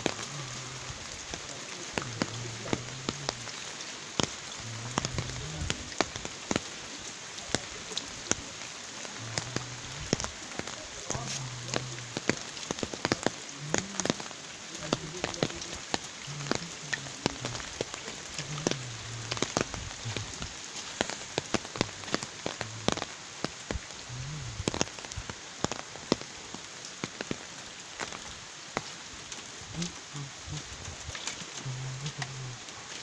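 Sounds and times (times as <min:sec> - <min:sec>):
large raindrops tapping: 0:00.0 - 0:33.0
rain falling steadily: 0:00.0 - 0:33.0.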